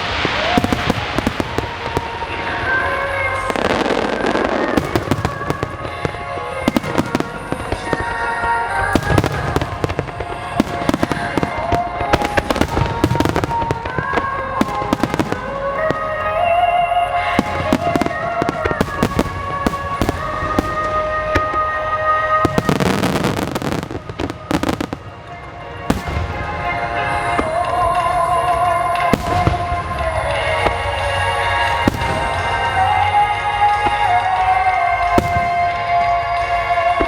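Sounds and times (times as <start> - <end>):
fireworks bangs and crackles: 0.0 - 37.0
music with long held notes: 0.0 - 37.0.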